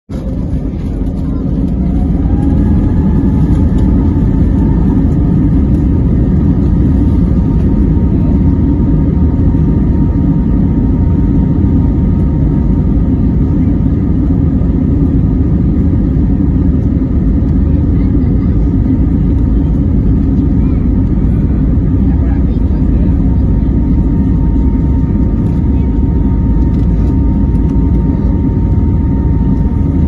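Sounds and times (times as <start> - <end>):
faint engine whine: 0.0 - 30.0
jet engine rumble in cabin: 0.0 - 30.0.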